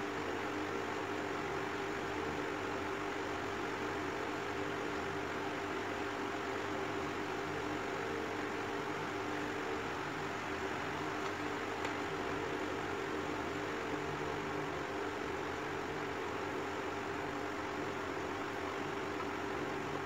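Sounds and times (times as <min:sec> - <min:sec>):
constant hiss: 0:00.0 - 0:20.0.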